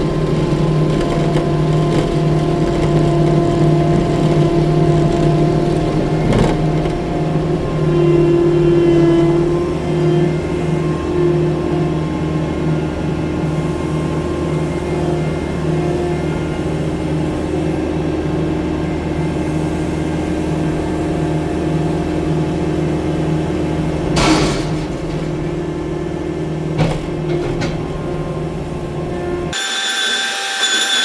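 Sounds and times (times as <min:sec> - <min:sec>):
loader engine running: 0:00.0 - 0:29.6.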